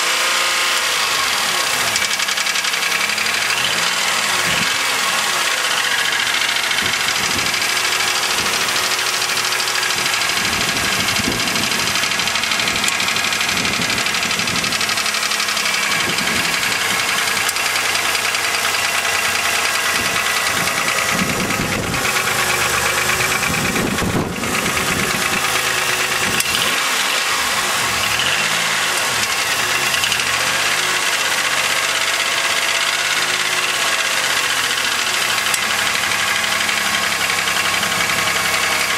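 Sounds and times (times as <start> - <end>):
car engine running with knocking: 0.0 - 38.9.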